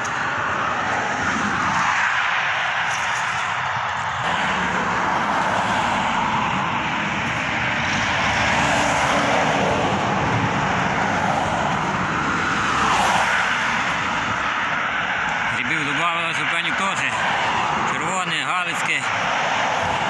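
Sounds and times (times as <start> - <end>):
highway traffic passing: 0.0 - 20.0.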